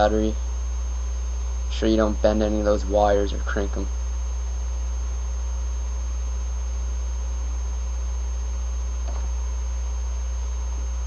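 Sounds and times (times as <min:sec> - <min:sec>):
faint high-pitched whine: 0:00.0 - 0:11.0
low electrical hum: 0:00.0 - 0:11.0.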